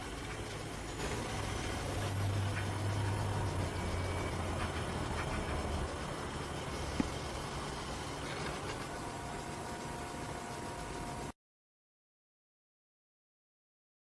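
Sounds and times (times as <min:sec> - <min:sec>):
low mechanical hum: 0:00.0 - 0:11.4.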